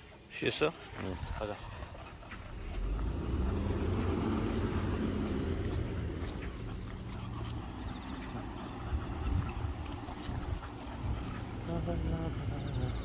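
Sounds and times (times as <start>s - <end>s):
low steady rumble: 1.2s - 13.0s.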